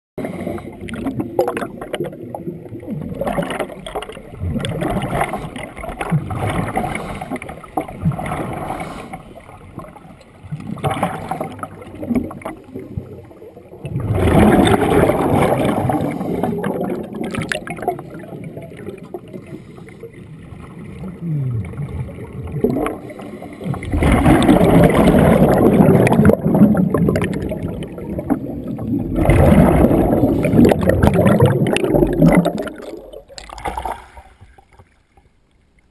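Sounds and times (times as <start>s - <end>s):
diver exhaling bubbles: 0.2s - 9.3s, 13.8s - 19.7s, 20.8s - 34.8s
gurgling bubbles: 0.2s - 35.3s
muffled water movement: 0.2s - 35.9s.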